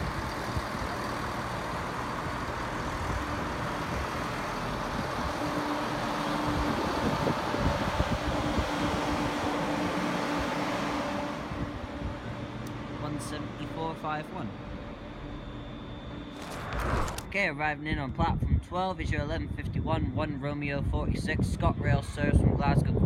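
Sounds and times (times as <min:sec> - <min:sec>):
steady drone: 0:00.0 - 0:21.1
diesel train engine hum: 0:00.0 - 0:21.4.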